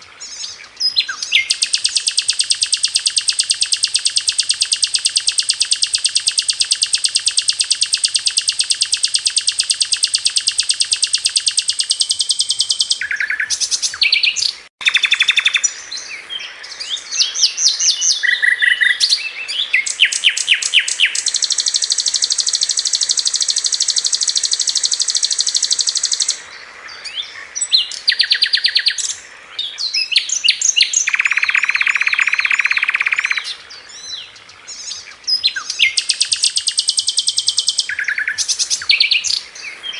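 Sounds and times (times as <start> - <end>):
flycatcher song: 0.0 - 39.9.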